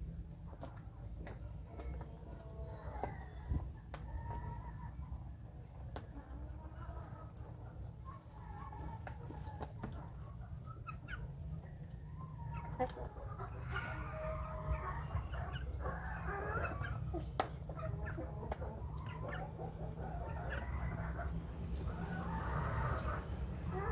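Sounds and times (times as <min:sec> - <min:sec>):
young chickens clucking: 0:00.0 - 0:23.9.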